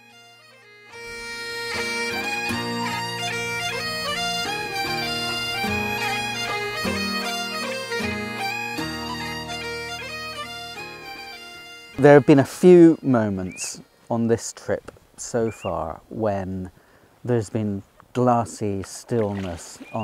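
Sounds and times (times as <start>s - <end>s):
background music melody: 0.0s - 20.0s.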